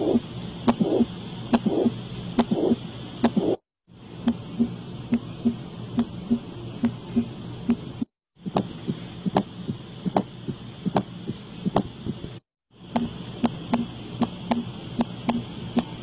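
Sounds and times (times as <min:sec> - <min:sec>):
heartbeat: 0:00.0 - 0:03.6, 0:04.2 - 0:12.4, 0:13.0 - 0:16.0.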